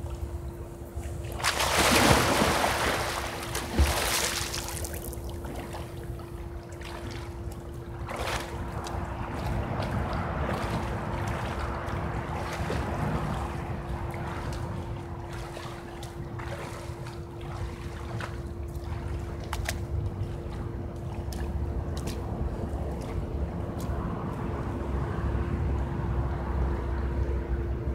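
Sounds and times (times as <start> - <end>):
pool water lapping and splashing: 0.0 - 27.9
steady hum: 0.0 - 27.9.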